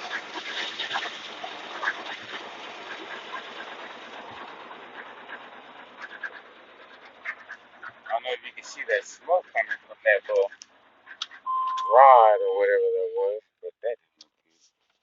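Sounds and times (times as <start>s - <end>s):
pickup engine idling: 0.0s - 12.7s.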